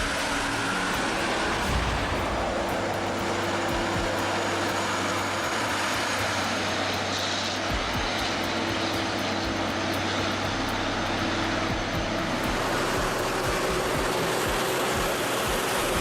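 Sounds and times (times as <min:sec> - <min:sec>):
rushing noise: 0:00.0 - 0:16.0
truck engine drone: 0:00.0 - 0:16.0.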